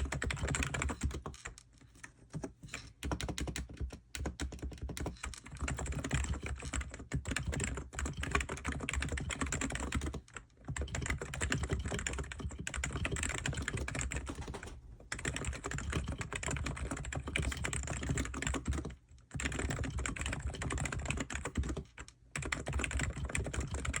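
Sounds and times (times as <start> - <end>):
fast keyboard typing: 0.0 - 1.5, 2.1 - 24.0.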